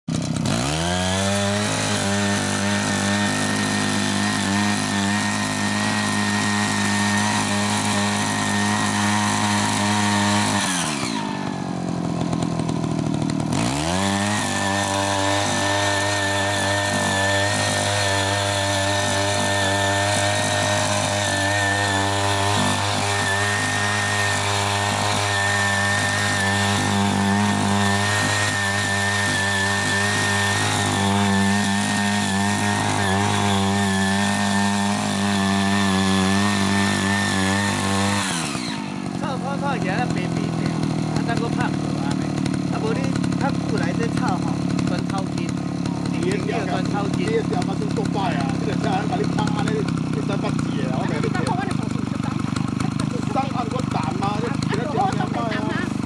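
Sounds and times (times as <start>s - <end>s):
small petrol engine running: 0.0s - 56.0s
tiller tines cutting soil: 0.0s - 56.0s.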